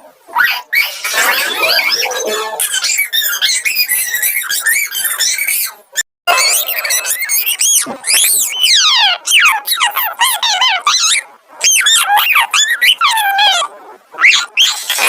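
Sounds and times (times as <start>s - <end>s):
high-pitched squawking voice: 0.3s - 15.0s.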